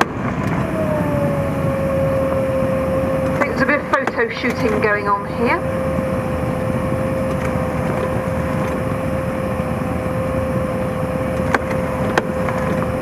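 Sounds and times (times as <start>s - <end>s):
engine running under load: 0.0s - 13.0s
hydraulic winch whine: 0.0s - 13.0s.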